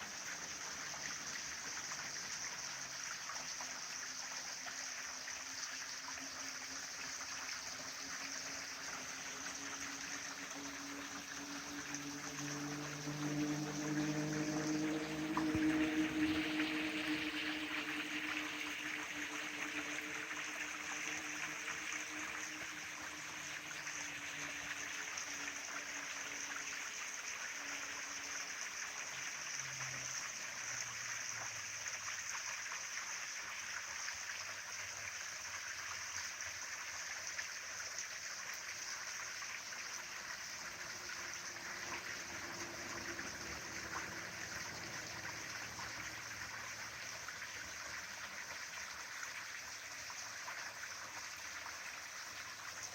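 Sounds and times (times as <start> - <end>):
stream babbling over rocks: 0.0 - 52.9.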